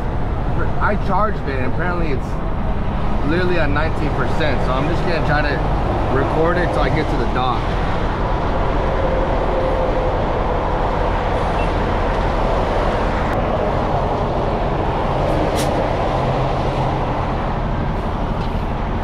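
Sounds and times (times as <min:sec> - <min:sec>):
road noise: 0:00.0 - 0:19.0
truck diesel engine drone: 0:00.0 - 0:19.0.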